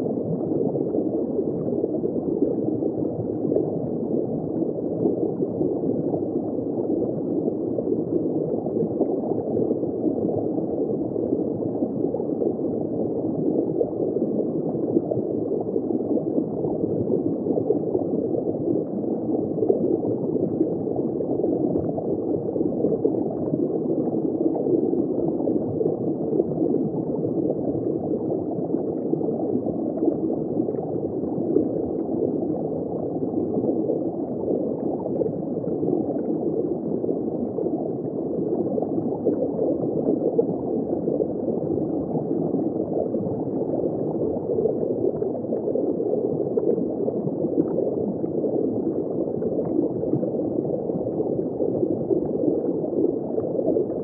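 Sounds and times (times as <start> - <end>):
aquarium water gurgling: 0.0 - 54.0.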